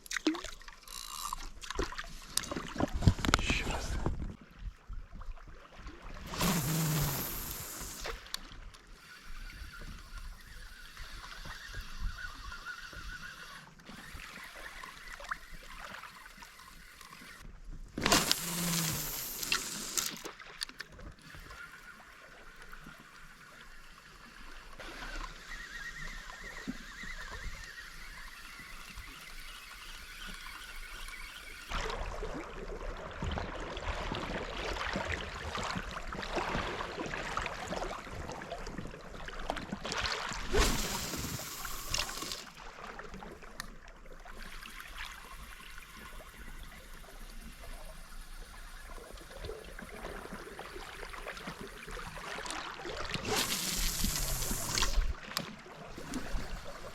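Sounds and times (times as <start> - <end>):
river water running and lapping: 0.0 - 56.9.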